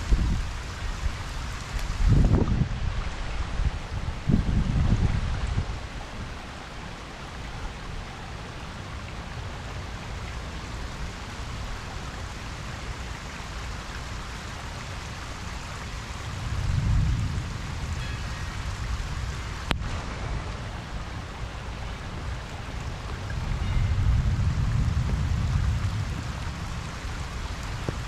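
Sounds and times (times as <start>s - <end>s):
rain falling on a pond: 0.0s - 28.0s.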